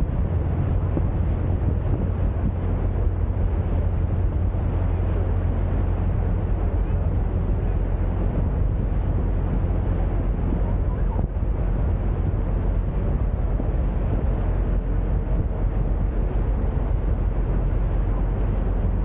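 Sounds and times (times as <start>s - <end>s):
boat engine droning: 0.0s - 19.0s
wind buffeting microphone: 0.0s - 19.0s.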